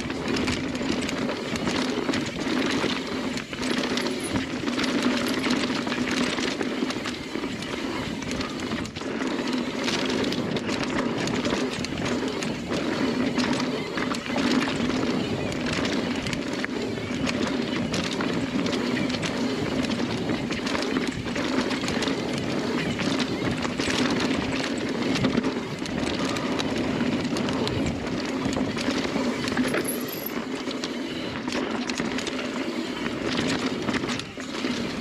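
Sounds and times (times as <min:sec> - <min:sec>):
bike rattling and clicking: 0:00.0 - 0:35.0.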